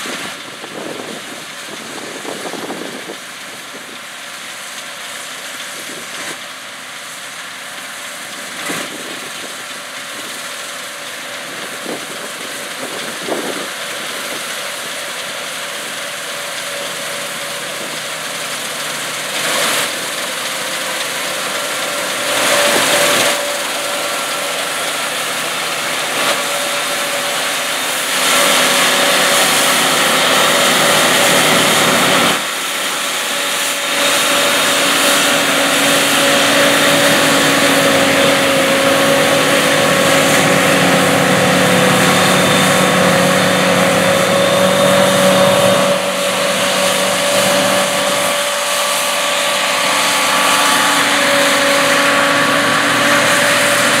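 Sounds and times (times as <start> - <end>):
combine harvester engine running: 0.0 - 54.0
rushing hiss of threshing machinery: 0.0 - 54.0.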